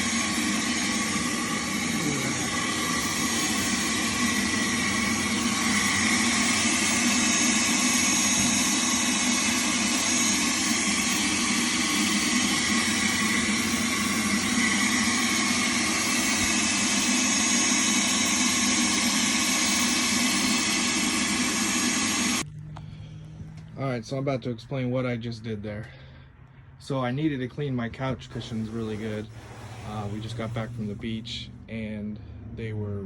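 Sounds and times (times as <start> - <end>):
shop vac running: 0.0 - 24.3, 27.8 - 32.4.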